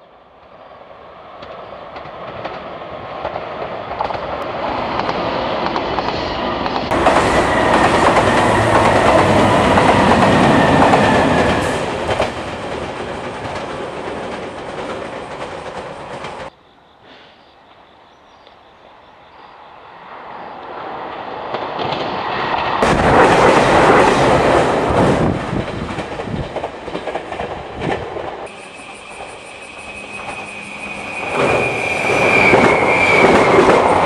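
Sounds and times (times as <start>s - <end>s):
train wheels rumbling on rails: 0.3s - 16.5s, 20.8s - 34.0s.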